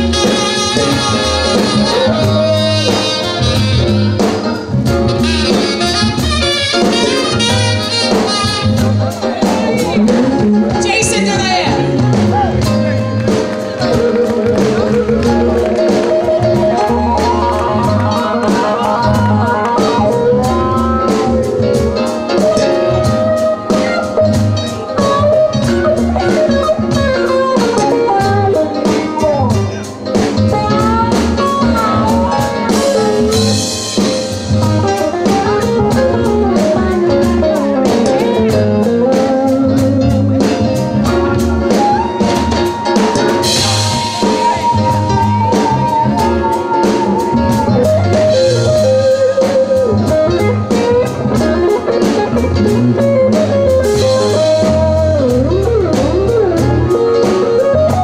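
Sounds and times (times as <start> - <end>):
live jazz band playing: 0.0 - 58.0.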